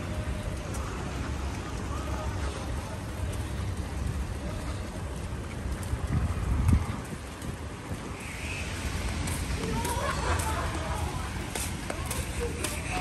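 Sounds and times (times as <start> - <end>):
rain on wet street: 0.0 - 13.0.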